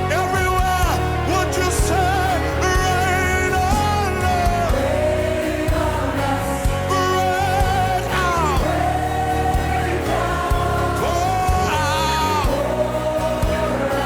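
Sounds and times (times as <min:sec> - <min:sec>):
bass line: 0:00.0 - 0:14.0.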